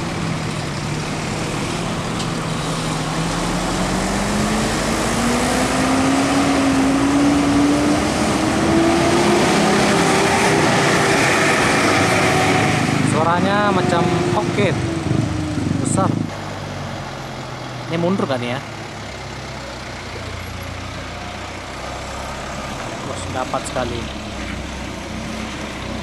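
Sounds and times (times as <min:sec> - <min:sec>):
bus diesel engine revving: 0:00.0 - 0:26.0.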